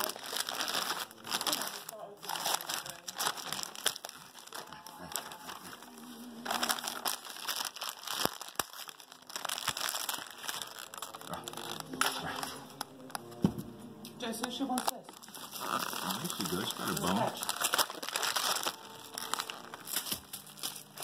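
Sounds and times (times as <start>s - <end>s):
foil wrapping paper crinkling: 0.0s - 13.3s, 14.4s - 21.0s.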